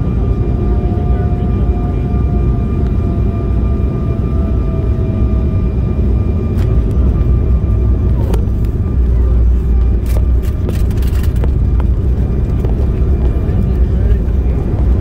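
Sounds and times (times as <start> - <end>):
engines and wheels rumbling: 0.0 - 15.0
faint engine whine: 0.0 - 15.0.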